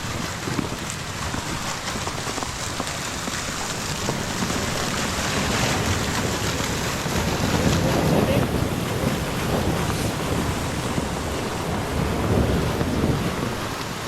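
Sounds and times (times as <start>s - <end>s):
snow pattering: 0.0s - 14.0s.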